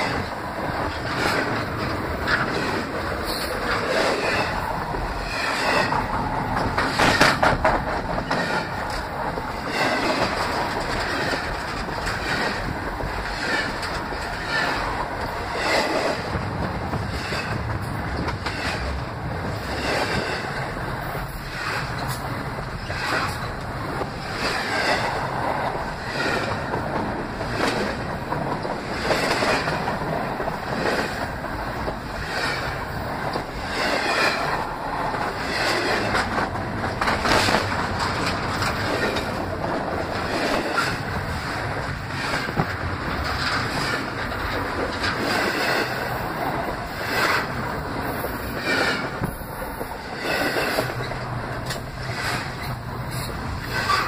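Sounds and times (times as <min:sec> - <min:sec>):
train wheels rumbling overhead: 0:00.0 - 0:54.0.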